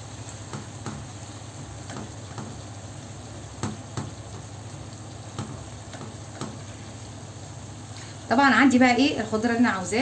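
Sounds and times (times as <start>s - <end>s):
onion sizzling in a pan: 0.0s - 10.0s.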